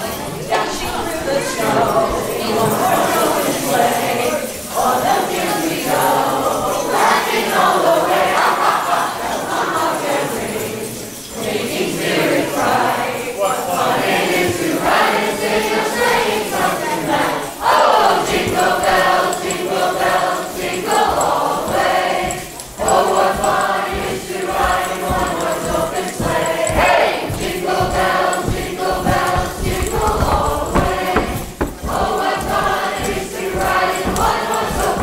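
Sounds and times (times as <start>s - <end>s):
group singing a carol: 0.0s - 35.0s.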